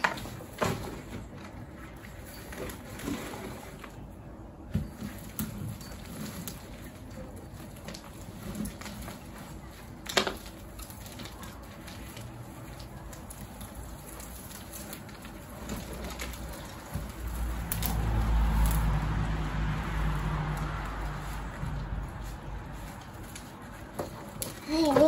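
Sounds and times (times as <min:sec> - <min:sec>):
soil and roots rustling: 0:00.0 - 0:25.0.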